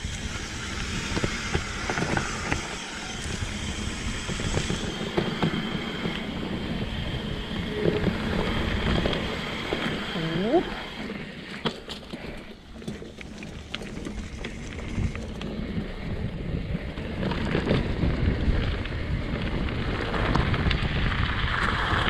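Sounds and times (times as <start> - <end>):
wind on microphone: 0.0 - 11.0, 13.3 - 22.0
bike clicks and rattles: 0.0 - 22.0
bike tyres on dirt: 0.0 - 22.0.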